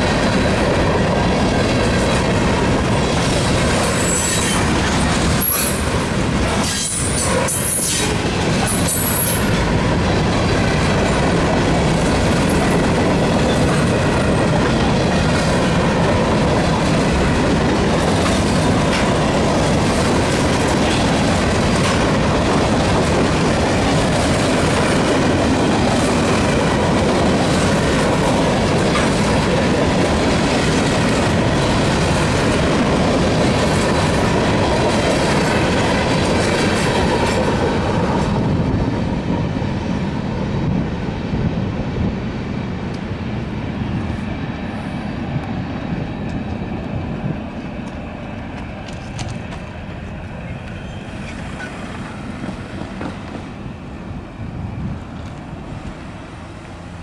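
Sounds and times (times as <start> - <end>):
freight train wheels clacking: 0.0 - 57.0.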